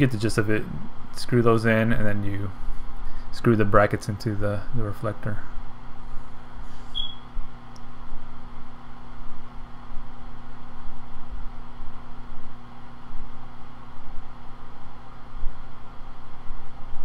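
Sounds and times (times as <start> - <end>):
low mechanical hum with rushing: 0.0 - 17.0.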